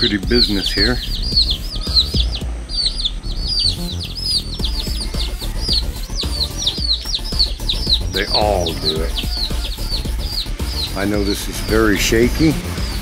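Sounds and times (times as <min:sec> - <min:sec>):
chicks peeping: 0:00.0 - 0:13.0
low rumble: 0:00.0 - 0:13.0.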